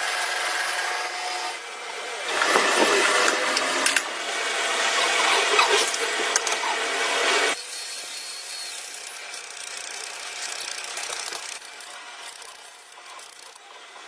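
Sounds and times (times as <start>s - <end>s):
power tool running: 0.0s - 14.0s.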